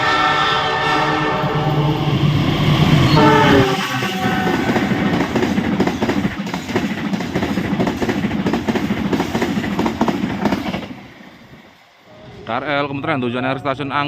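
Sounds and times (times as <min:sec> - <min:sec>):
train rushing past: 0:00.0 - 0:13.3.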